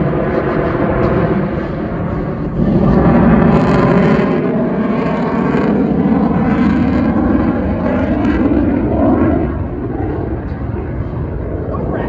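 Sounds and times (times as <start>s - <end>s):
jet engines passing: 0.0s - 12.0s.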